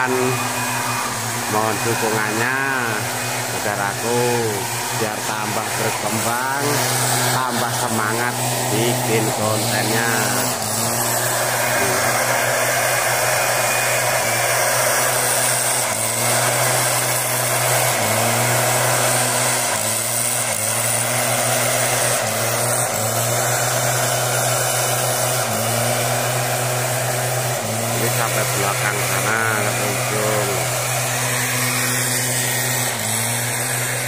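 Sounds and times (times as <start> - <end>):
mist blower engine running: 0.0 - 34.0.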